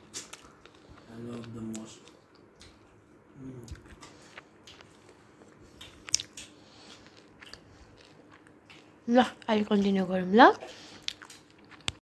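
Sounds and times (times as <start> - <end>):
chewing: 0.0 - 9.5, 10.6 - 12.0.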